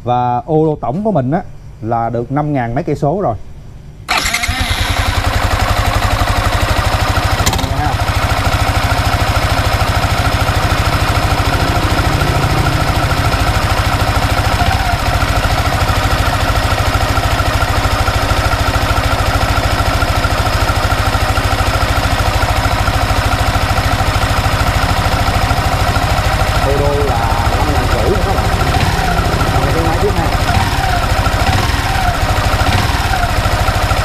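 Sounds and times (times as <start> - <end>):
motorcycle engine idling: 4.2 - 34.0.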